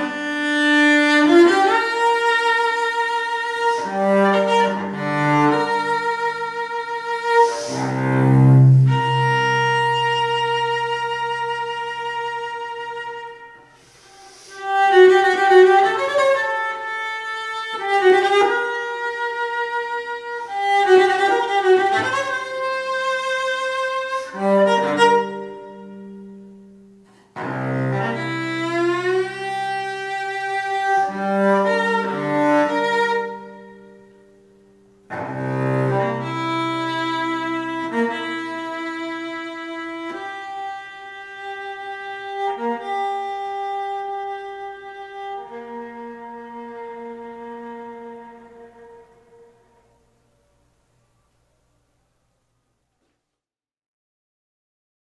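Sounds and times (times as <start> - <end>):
bowed cello: 0.0 - 50.1.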